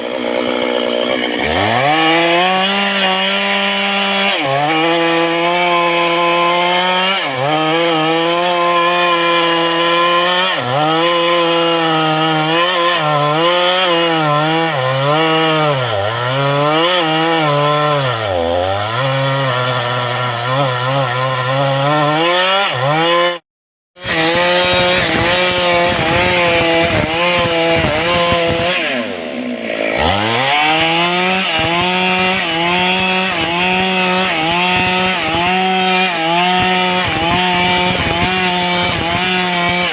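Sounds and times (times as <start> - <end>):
chainsaw cutting into tree trunk: 0.0 - 23.4, 24.0 - 39.9.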